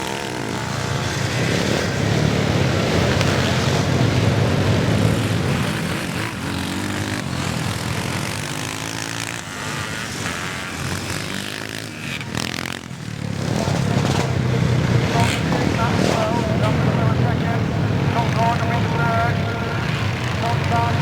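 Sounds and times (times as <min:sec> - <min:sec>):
motocross engines revving: 0:00.0 - 0:21.0.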